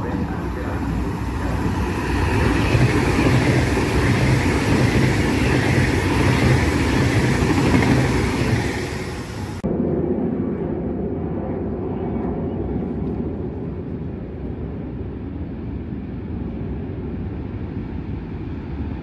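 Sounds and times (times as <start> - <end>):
train passing at speed: 0.0 - 11.4, 13.1 - 19.0.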